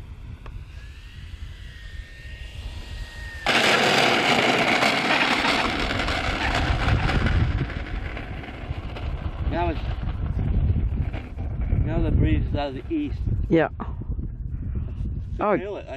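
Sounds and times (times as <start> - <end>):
model plane motor whine: 0.0 - 13.2
loud rushing noise of plane: 0.0 - 13.4.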